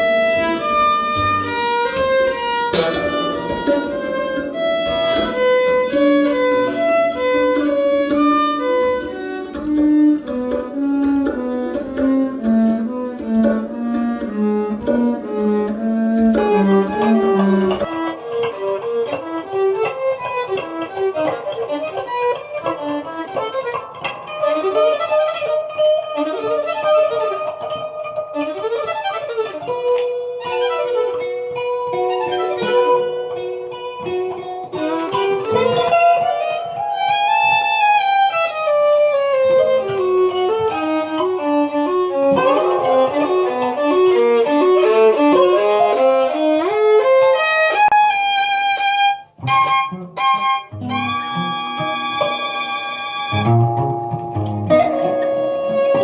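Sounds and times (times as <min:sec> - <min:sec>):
acoustic guitar improvising: 0:00.0 - 0:56.0
violin improvising: 0:00.0 - 0:56.0.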